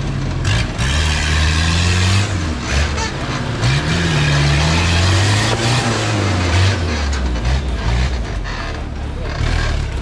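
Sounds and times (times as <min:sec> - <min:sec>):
engine revving hard: 0:00.4 - 0:10.0.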